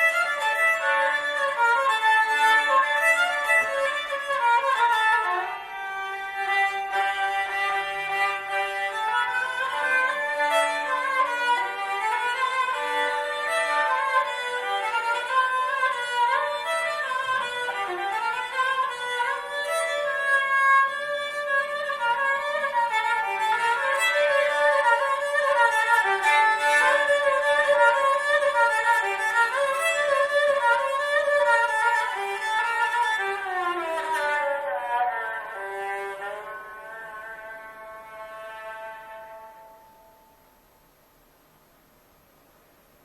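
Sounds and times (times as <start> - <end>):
bowed lyra melody: 0.0 - 40.4.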